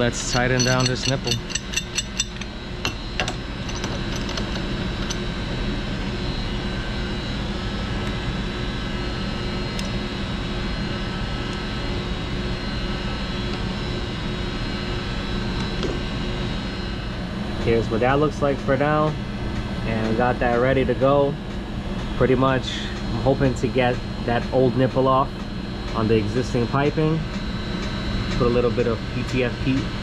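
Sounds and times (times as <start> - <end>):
machinery drone: 0.0 - 30.0.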